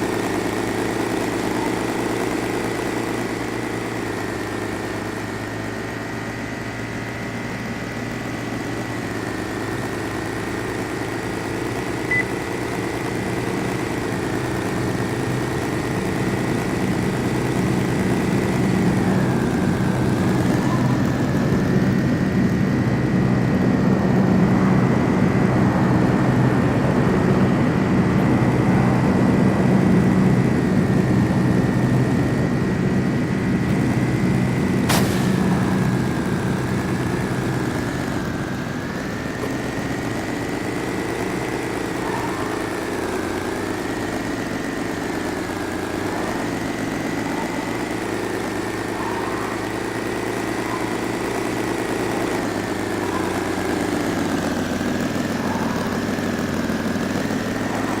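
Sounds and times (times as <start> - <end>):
engine droning with high whine: 0.0 - 58.0.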